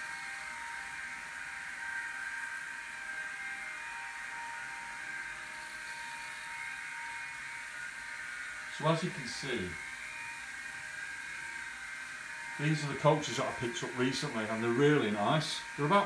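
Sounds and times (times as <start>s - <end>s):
model train motor whirring: 0.0s - 16.0s.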